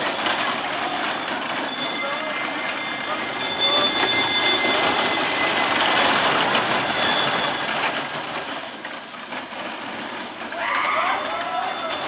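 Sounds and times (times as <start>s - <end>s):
roller coaster train rolling: 0.0s - 12.0s
wheels squealing whine: 0.0s - 12.0s.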